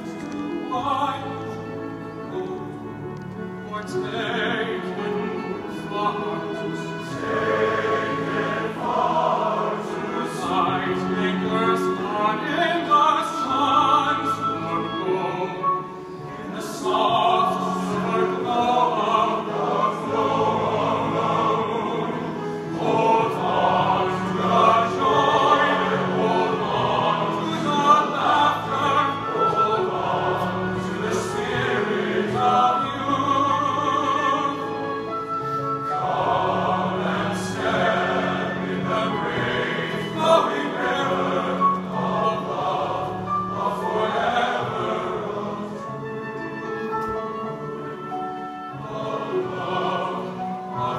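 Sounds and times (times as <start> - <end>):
men's chorus singing: 3.7 - 35.1, 35.8 - 46.3, 48.7 - 50.9.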